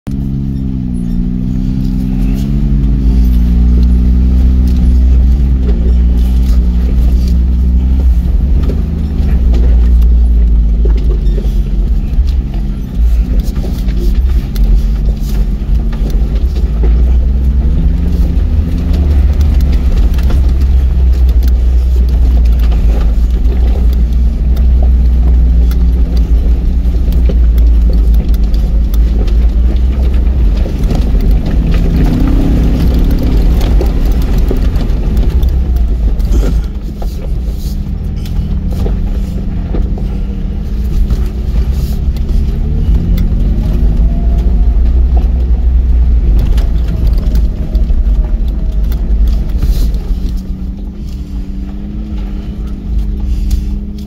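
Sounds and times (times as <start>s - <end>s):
vehicle engine running: 0.0s - 54.0s
clattering over stones: 1.8s - 54.0s.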